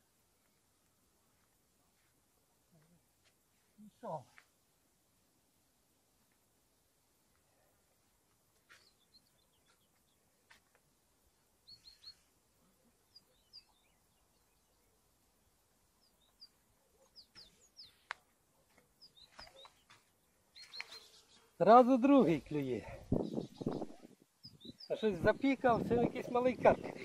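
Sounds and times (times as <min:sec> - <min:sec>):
faint birdsong chirps: 0:00.0 - 0:27.0.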